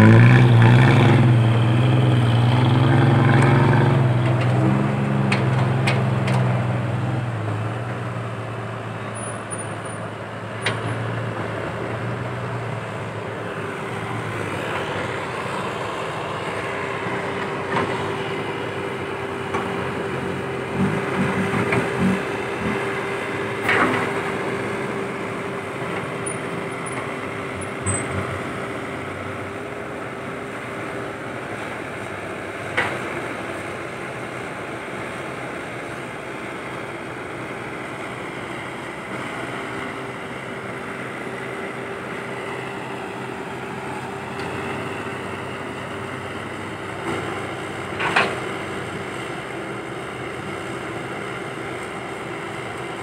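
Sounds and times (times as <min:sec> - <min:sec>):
dump truck diesel engine: 0:00.0 - 0:53.0.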